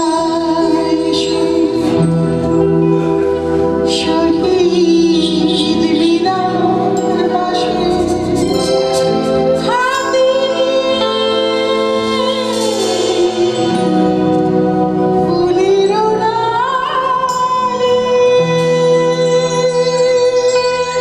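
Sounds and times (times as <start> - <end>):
woman singing into microphone: 0.0 - 3.0, 3.7 - 21.0
instrumental accompaniment: 0.0 - 21.0.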